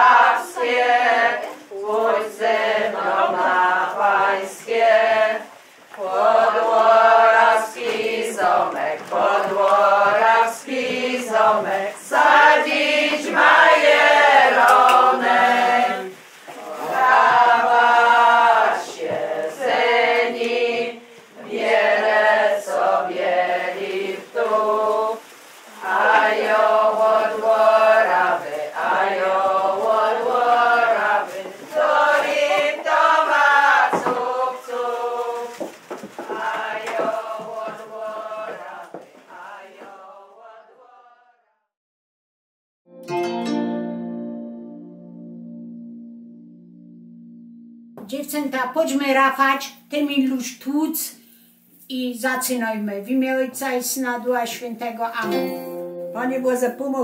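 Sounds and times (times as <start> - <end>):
women singing unaccompanied: 0.0 - 41.4, 48.0 - 51.2, 51.9 - 57.0.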